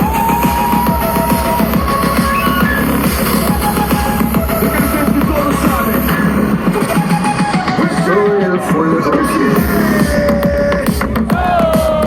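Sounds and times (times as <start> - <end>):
loud electronic dance music: 0.0 - 12.0.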